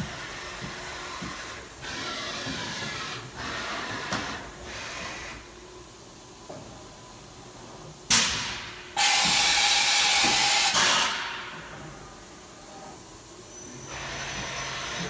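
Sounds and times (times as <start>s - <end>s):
machine hissing whirring bursts: 0.0s - 6.2s, 8.1s - 12.2s, 12.9s - 15.0s.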